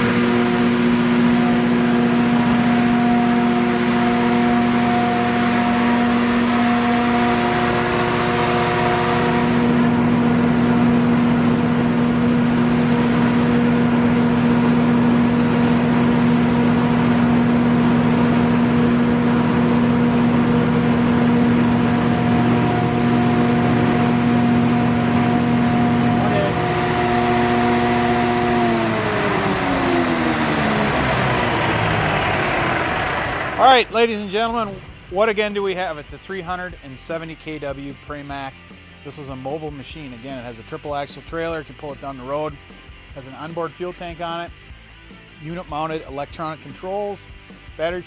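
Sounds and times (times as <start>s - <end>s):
diesel generator engine running: 0.0s - 45.9s.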